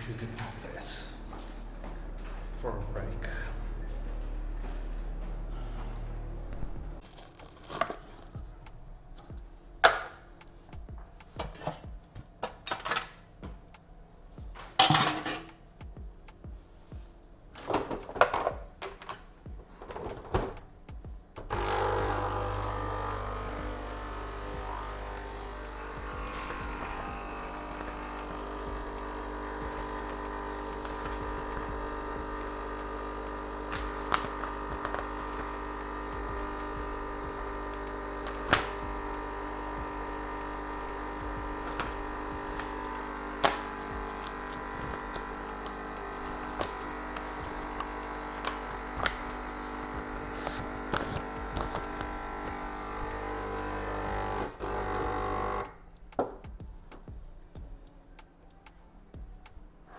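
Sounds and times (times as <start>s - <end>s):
machine humming with held tones: 0.0s - 59.9s.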